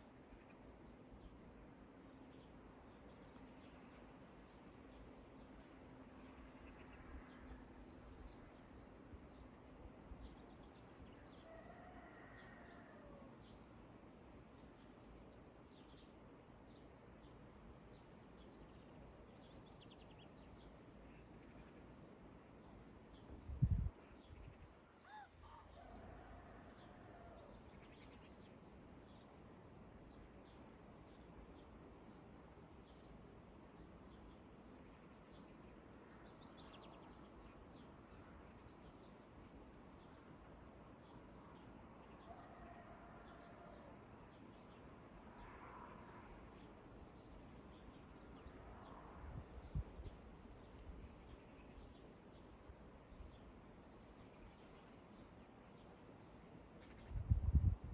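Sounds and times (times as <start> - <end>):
crickets chirring: 0.0 - 57.9.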